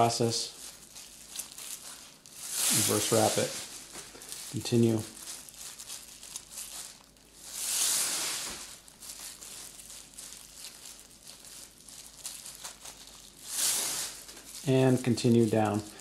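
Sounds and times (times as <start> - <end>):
plastic bag strips crinkling: 0.0 - 16.0.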